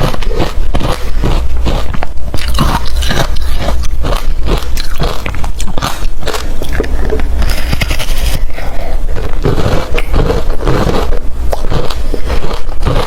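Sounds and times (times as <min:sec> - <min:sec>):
crunching ice being chewed: 0:00.0 - 0:13.0.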